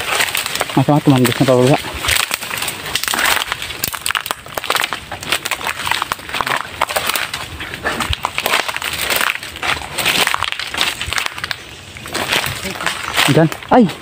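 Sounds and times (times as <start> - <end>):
footsteps crunching through dry leaves: 0.0 - 14.0.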